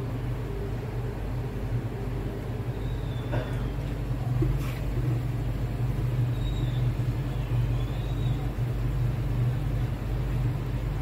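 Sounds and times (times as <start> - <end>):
aquarium air pump humming: 0.0 - 11.0.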